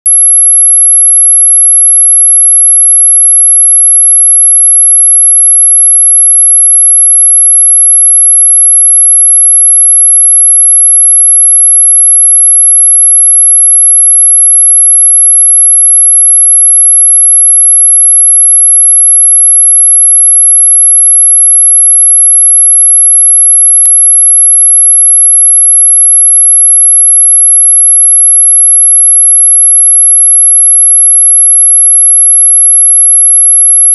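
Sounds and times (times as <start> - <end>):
high-pitched whistle tone: 0.0 - 33.9.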